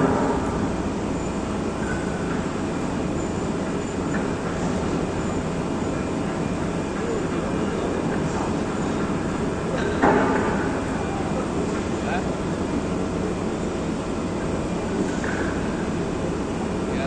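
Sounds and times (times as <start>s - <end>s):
steady rumble and hiss: 0.0s - 17.0s.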